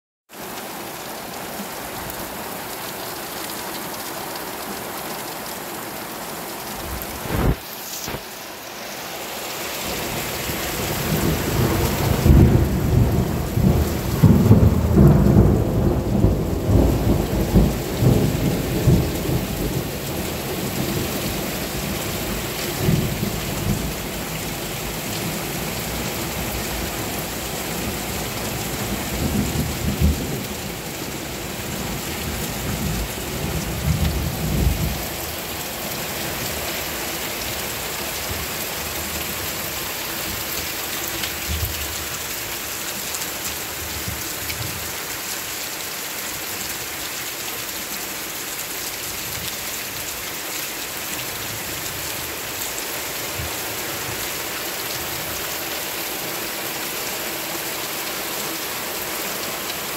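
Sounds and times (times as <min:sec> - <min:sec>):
heavy rain falling: 0:00.3 - 0:59.9.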